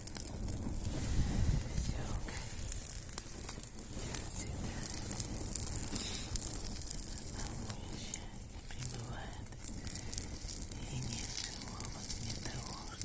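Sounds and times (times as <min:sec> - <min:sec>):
bonfire crackling and hissing: 0:00.0 - 0:13.0
sharp pops of fire: 0:00.0 - 0:13.0.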